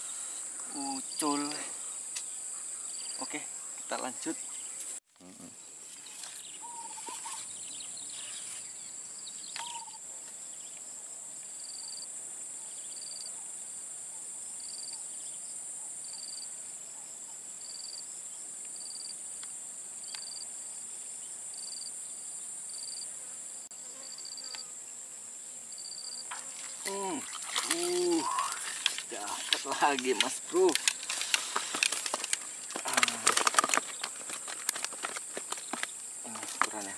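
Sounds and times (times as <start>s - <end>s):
insects droning high-pitched: 0.0s - 36.9s.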